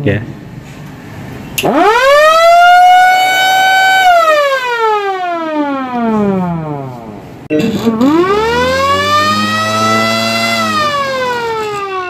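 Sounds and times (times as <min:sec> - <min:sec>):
emergency siren wailing: 0:01.6 - 0:12.0.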